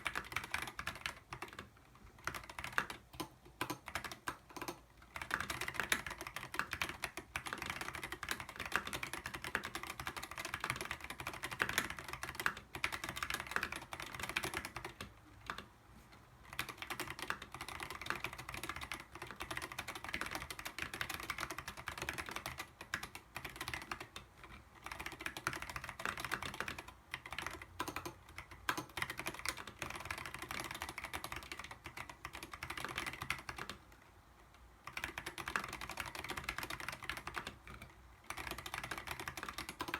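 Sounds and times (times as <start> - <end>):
mechanical keyboard typing: 0.0 - 15.7, 16.4 - 34.0, 34.8 - 39.9.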